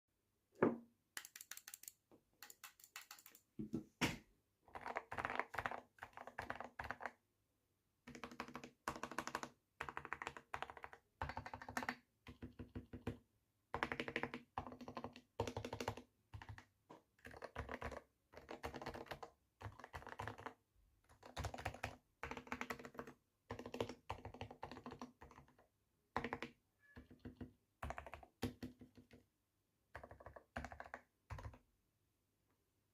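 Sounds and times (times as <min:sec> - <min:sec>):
quiet mechanical keyboard typing: 0:01.2 - 0:03.5, 0:04.7 - 0:07.1, 0:08.1 - 0:29.2, 0:29.9 - 0:31.6.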